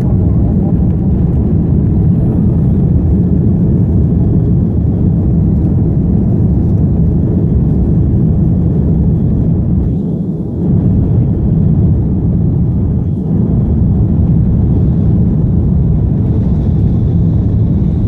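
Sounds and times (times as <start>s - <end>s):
airliner engines low rumble: 0.0s - 18.0s.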